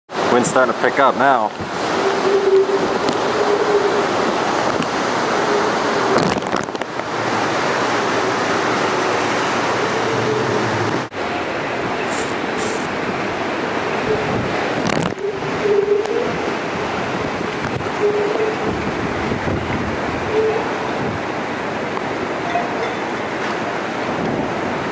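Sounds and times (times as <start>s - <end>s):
waves breaking on shore: 0.1s - 24.9s
wind: 0.1s - 24.9s.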